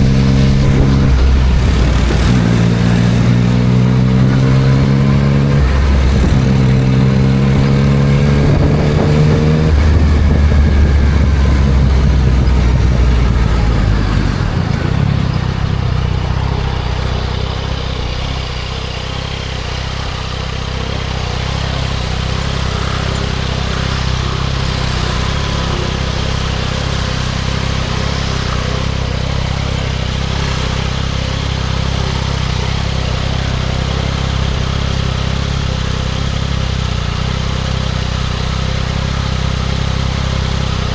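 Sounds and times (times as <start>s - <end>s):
motorcycle engine: 0.0s - 40.9s
wind and road noise: 0.0s - 40.9s.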